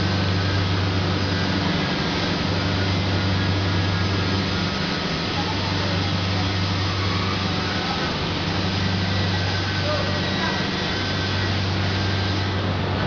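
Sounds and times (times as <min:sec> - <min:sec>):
furnace electrical hum: 0:00.0 - 0:13.0.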